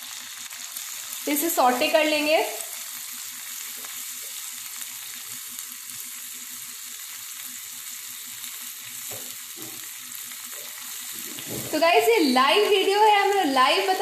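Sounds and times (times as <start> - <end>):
vegetables sizzling in butter: 0.0 - 14.0.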